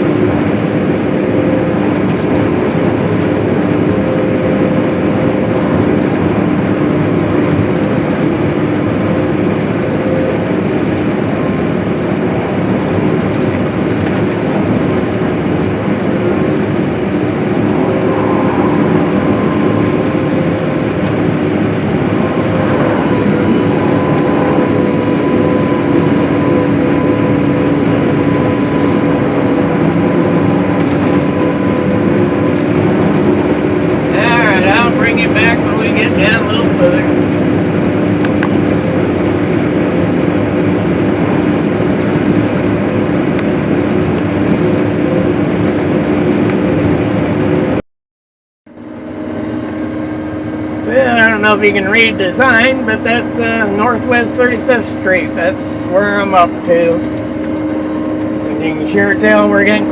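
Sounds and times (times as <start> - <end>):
swather engine and cutter droning: 0.0 - 47.8, 48.7 - 59.9.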